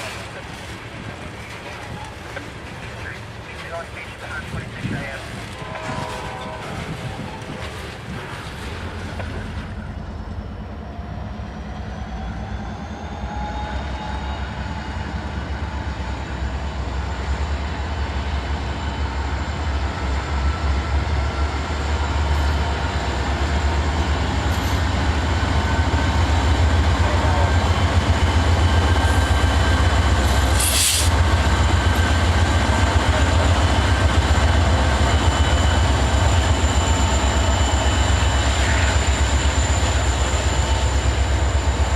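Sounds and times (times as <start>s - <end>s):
diesel train engine rumble: 0.0s - 41.9s.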